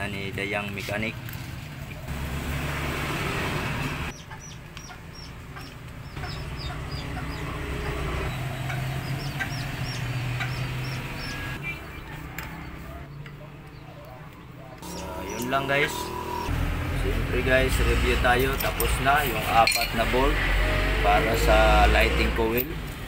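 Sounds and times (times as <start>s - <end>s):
birds chirping: 3.2s - 22.6s.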